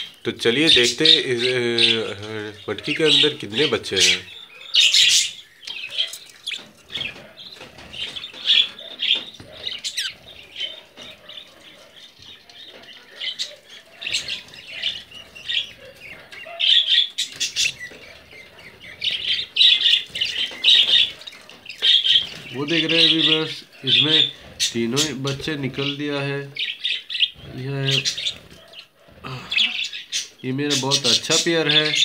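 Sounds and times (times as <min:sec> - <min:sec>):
budgerigars chattering and squawking: 0:00.0 - 0:32.0.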